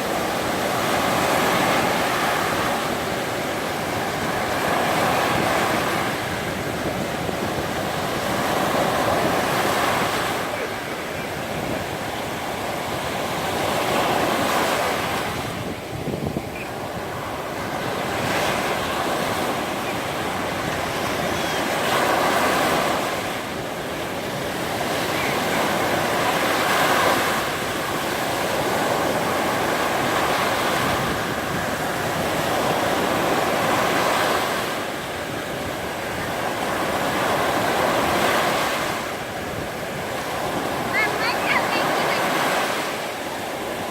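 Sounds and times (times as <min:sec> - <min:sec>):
waves breaking on a beach: 0:00.0 - 0:43.9
wind buffeting the microphone: 0:00.0 - 0:43.9.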